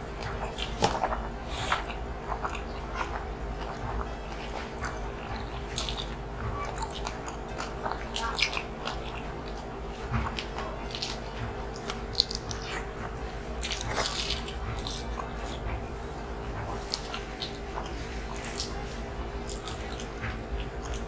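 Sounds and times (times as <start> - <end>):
people chewing and lip smacking: 0.0 - 21.0.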